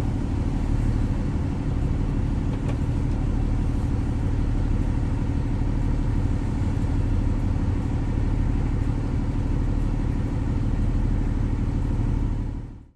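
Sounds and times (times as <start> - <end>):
diesel train engine rumbling: 0.0 - 12.9.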